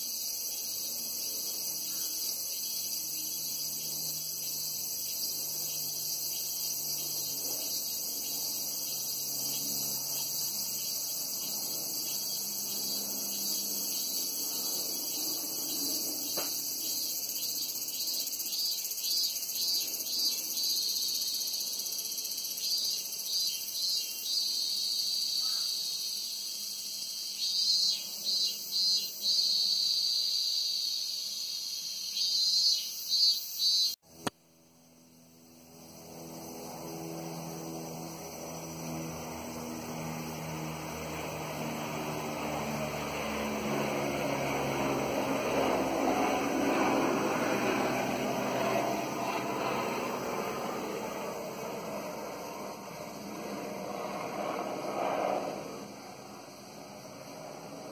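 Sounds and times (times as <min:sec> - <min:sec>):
distant helicopter drone: 0:00.0 - 0:32.7, 0:33.7 - 0:57.9
cicada pulsing call: 0:00.0 - 0:57.9
cicadas chorus: 0:00.0 - 0:57.9.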